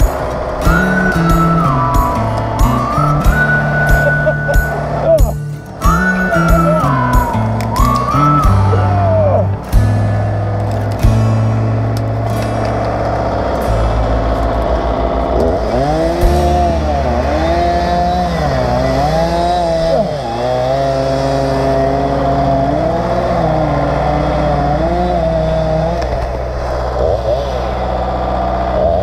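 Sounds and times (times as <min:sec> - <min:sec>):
engine revving: 0:00.0 - 0:29.0.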